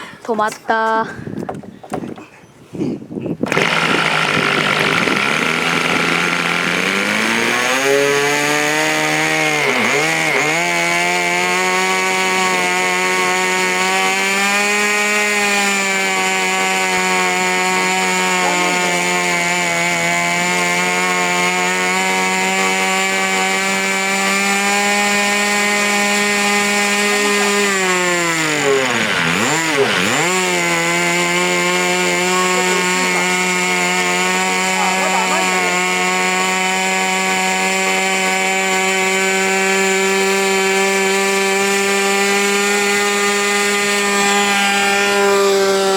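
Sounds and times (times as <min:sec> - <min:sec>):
model airplane engine revving: 0:03.4 - 0:45.9.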